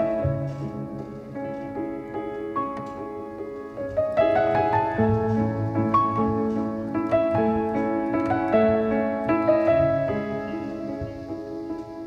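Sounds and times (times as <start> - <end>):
piano notes and chords: 0.0 - 12.0.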